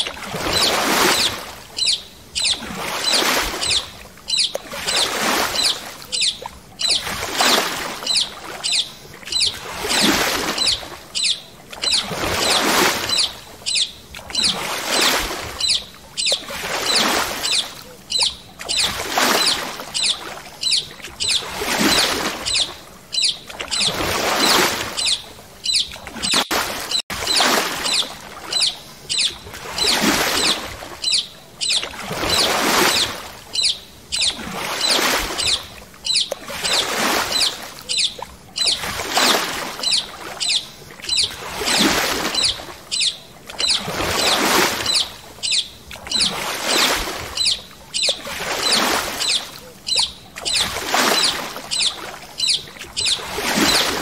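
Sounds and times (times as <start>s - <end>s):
paddle splashing through water: 0.0s - 54.0s.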